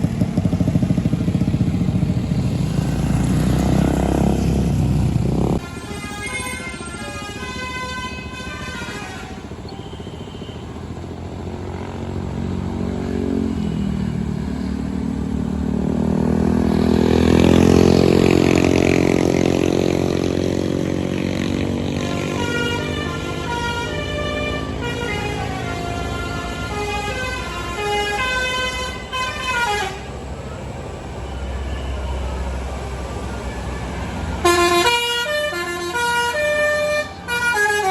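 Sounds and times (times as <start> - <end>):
bus engine passing: 0.0 - 37.9
multi-tone bus horn melody: 5.6 - 14.8, 16.2 - 37.9.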